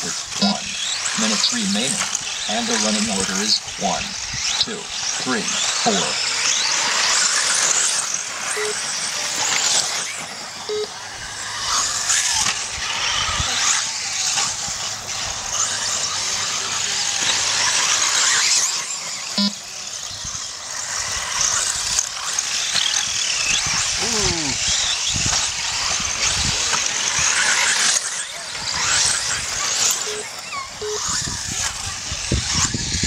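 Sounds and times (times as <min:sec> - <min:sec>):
rc car motors whining: 0:00.0 - 0:33.0.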